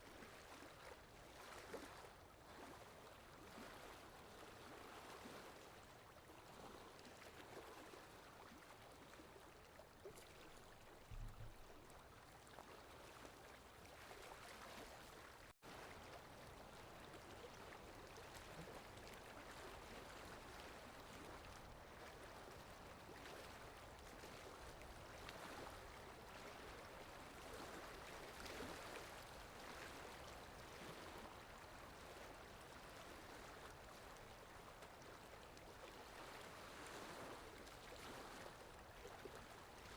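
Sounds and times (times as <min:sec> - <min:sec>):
faint flowing stream: 0:00.0 - 0:39.9.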